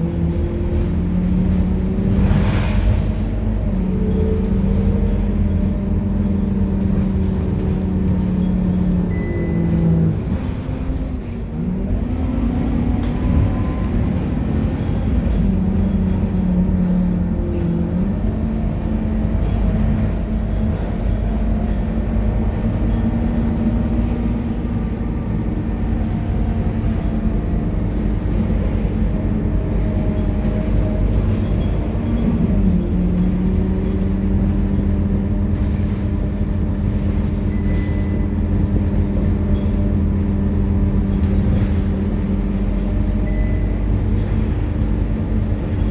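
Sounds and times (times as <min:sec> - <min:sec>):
bus engine humming: 0:00.0 - 0:45.9.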